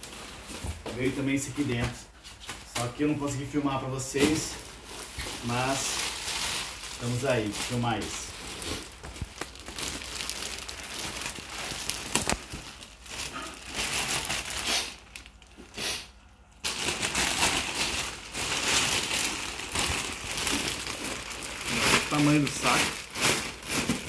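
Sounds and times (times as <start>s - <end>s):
plastic bags crinkling: 0.0s - 15.8s, 16.6s - 24.0s.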